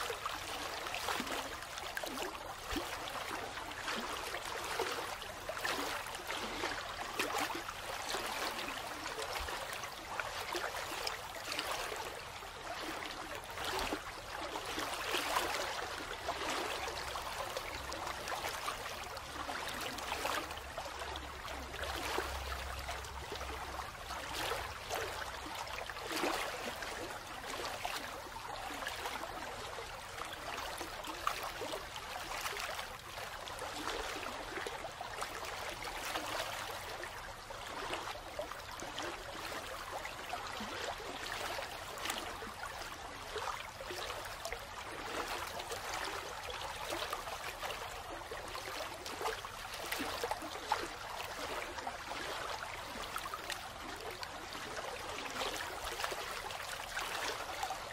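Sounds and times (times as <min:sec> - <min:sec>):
small water splashes: 0:00.0 - 0:57.9.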